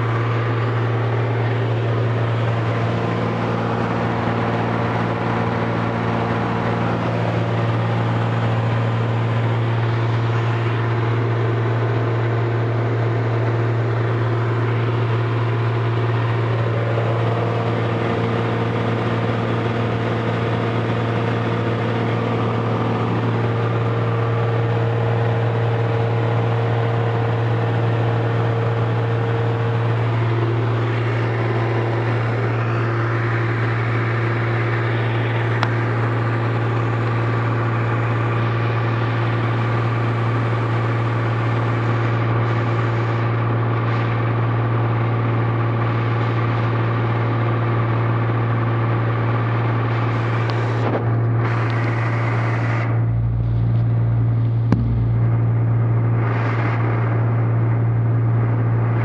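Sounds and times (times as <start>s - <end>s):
airplane engine drone in cockpit: 0.0s - 59.0s.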